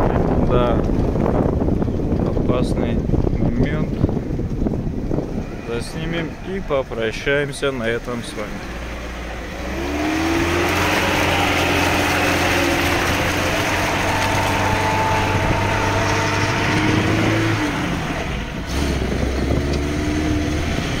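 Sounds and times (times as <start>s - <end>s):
car engine under load: 0.0s - 21.0s
tyre and wind noise: 0.0s - 21.0s.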